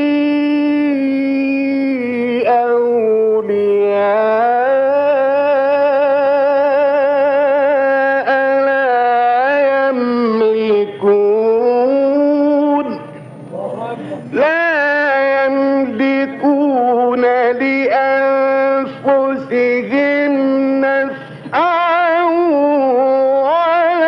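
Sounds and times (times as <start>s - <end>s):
man chanting melodically: 0.0s - 24.0s.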